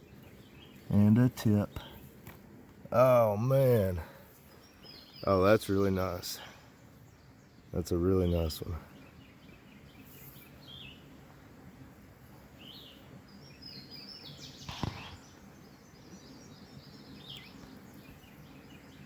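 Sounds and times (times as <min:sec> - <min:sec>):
birds chirping: 0:00.0 - 0:19.0
faint steady background noise: 0:00.0 - 0:19.0.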